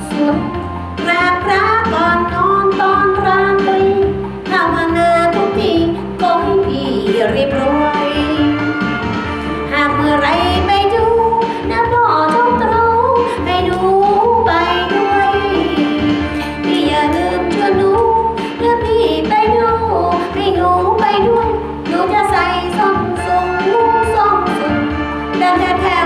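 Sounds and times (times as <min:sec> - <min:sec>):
backing track with bass line: 0:00.0 - 0:26.0
woman singing into microphone: 0:00.0 - 0:26.0.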